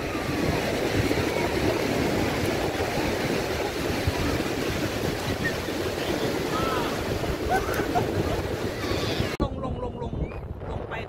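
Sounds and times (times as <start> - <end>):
small waves breaking on beach: 0.0 - 9.4
wind buffeting microphone: 0.0 - 11.0.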